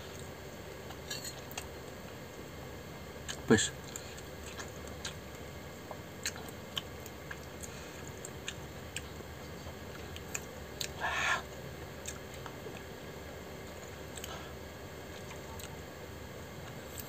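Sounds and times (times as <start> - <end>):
quiet chewing with mouth clicks: 0.1 - 2.1, 3.2 - 13.0, 13.6 - 15.9.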